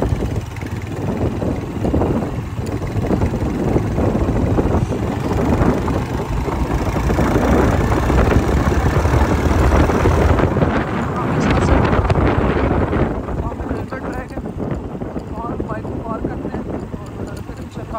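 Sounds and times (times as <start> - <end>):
motorcycle engine running: 0.0 - 17.9
wind buffeting microphone: 0.0 - 17.9.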